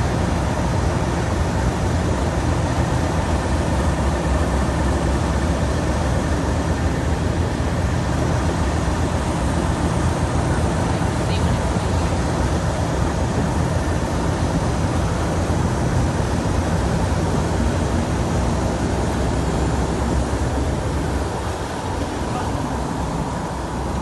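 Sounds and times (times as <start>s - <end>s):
locomotive diesel engine idling: 0.0s - 24.0s.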